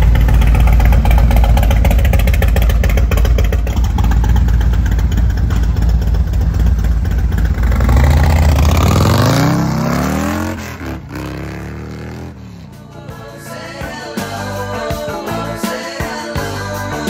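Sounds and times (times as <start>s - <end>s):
motorcycle engine accelerating: 0.0s - 14.4s.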